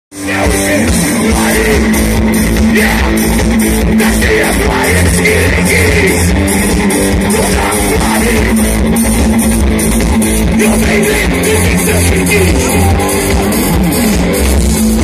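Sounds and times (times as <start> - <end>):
drums: 0.1 - 15.0
electric guitar: 0.1 - 15.0
live rock band playing: 0.1 - 15.0.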